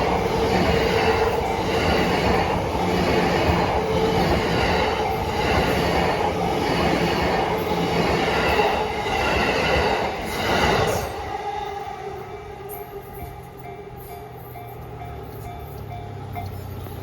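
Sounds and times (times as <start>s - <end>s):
rumble of train cars: 0.0s - 17.0s.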